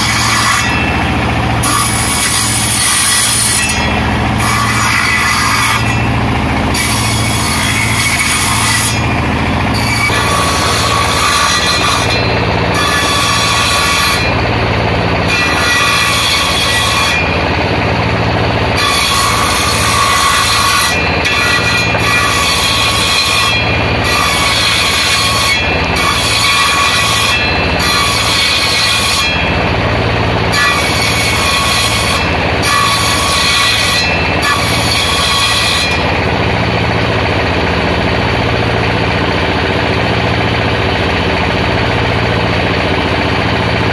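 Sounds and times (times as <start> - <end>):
saw blade cutting whine: 0.0 - 43.9
table saw motor hum: 0.0 - 43.9.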